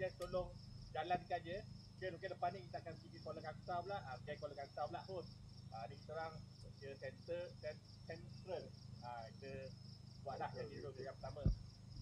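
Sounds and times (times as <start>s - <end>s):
people talking: 0.0s - 5.2s, 5.8s - 9.7s, 10.3s - 11.5s
crickets chirping: 0.0s - 12.0s
low steady hum: 0.0s - 12.0s.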